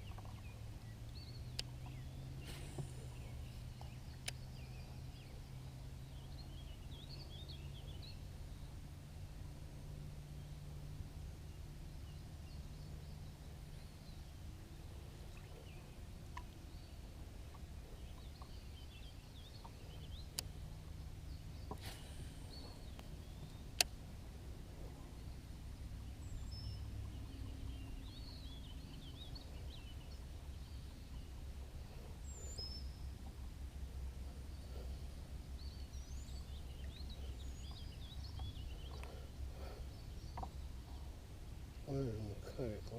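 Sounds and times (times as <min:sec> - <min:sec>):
birds singing and chirping: 0:00.0 - 0:08.7, 0:12.0 - 0:21.8, 0:22.4 - 0:23.9, 0:24.8 - 0:33.2, 0:34.3 - 0:42.9
steady low rumble: 0:00.0 - 0:42.9.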